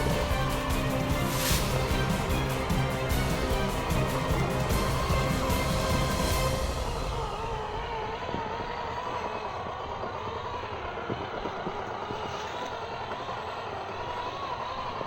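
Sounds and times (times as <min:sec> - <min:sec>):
toy truck electric motor whining: 0:00.0 - 0:15.0.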